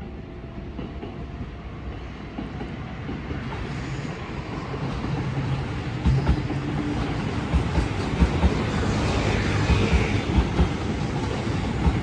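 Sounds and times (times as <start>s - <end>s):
train wheels rumbling and clacking: 0.0s - 12.0s.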